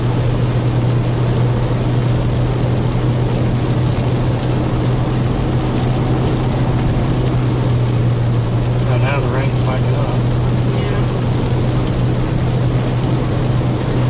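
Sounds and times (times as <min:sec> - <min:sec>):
rain: 0:00.0 - 0:14.0
tyres hissing on wet pavement: 0:00.0 - 0:14.0
vehicle road noise drone: 0:00.0 - 0:14.0.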